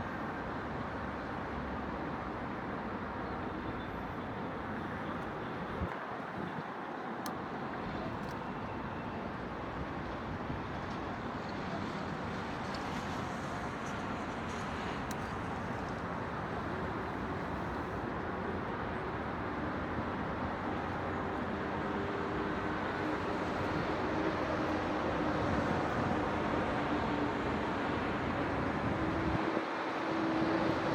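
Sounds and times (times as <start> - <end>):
distant city road traffic: 0.0 - 30.9.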